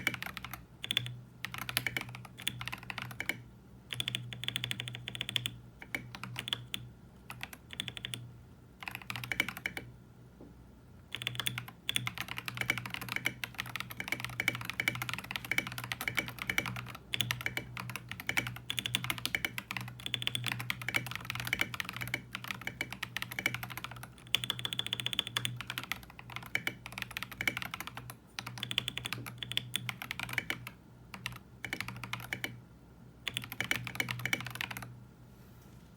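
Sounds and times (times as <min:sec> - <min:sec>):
mechanical keyboard typing: 0:00.0 - 0:08.2, 0:08.8 - 0:09.9, 0:11.1 - 0:32.6, 0:33.2 - 0:34.9.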